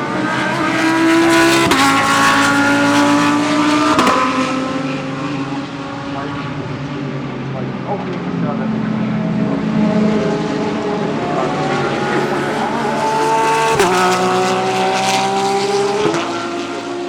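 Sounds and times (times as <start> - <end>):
race car engines accelerating: 0.0 - 17.0.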